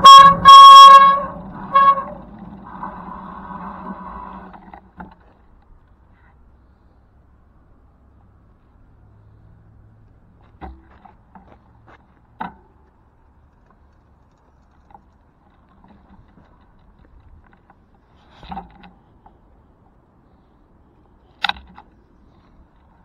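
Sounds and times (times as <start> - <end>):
bicycle rattling on rough ground: 0.0 - 7.0, 10.0 - 23.0.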